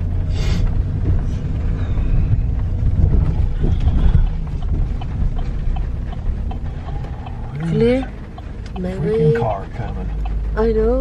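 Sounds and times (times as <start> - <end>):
vehicle rumble on wet road: 0.0 - 11.0.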